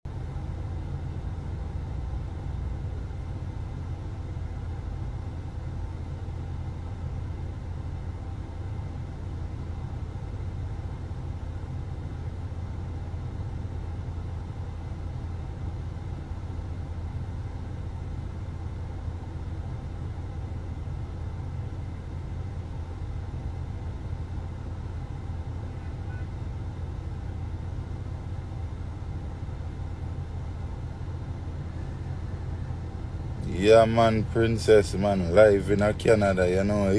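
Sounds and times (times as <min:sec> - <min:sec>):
car rumble: 0:00.1 - 0:36.9.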